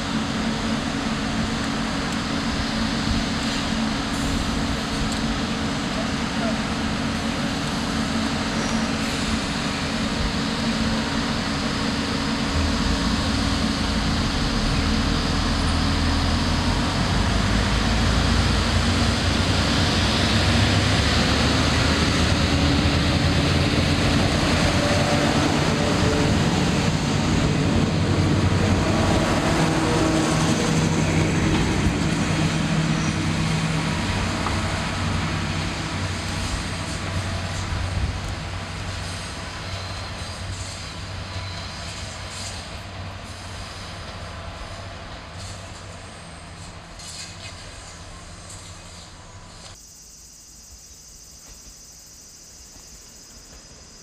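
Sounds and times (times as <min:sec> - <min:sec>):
diesel railcar engine drone: 0:00.0 - 0:54.0
rail and wheel noise: 0:00.0 - 0:54.0.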